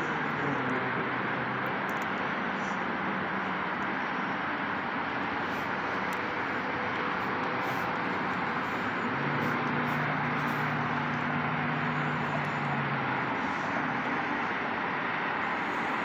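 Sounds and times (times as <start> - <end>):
distant road traffic: 0.0 - 16.0
vehicle engine hum: 0.0 - 16.0.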